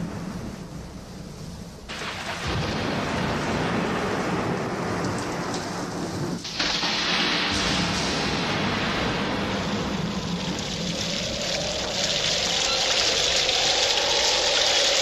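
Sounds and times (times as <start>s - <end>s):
steady rain: 0.0s - 15.0s
rumbling thunder: 1.9s - 15.0s.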